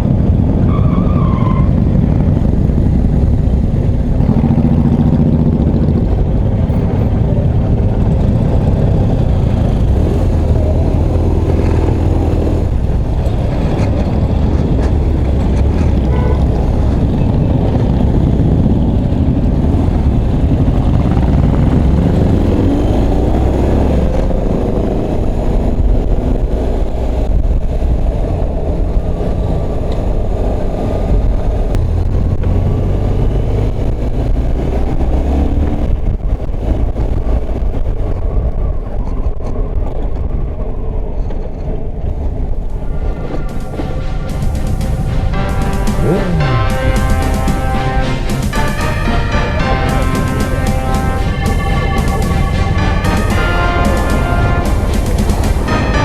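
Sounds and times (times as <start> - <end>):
road and wind rumble: 0.0 - 56.0
motorcycle engine running: 1.6 - 38.4, 42.8 - 56.0.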